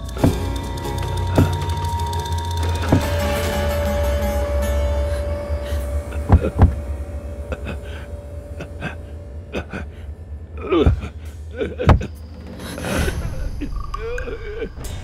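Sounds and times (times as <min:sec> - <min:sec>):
dramatic music: 0:00.0 - 0:15.0.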